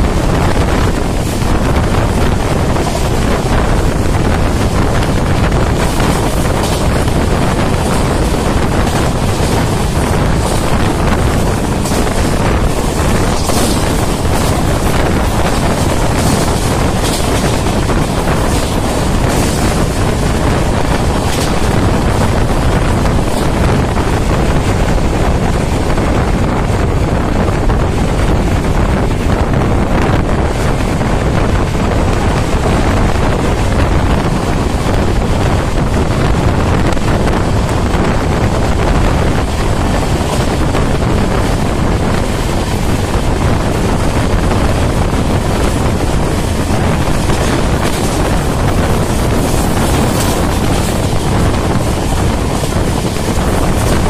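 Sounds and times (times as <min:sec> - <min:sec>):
train coach rumbling: 0:00.0 - 0:54.0
wind rushing on microphone: 0:00.0 - 0:54.0.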